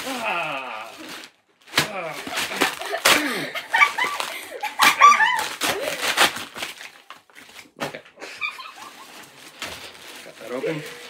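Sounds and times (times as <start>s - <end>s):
paper ripping and crinkling: 0.0s - 11.0s.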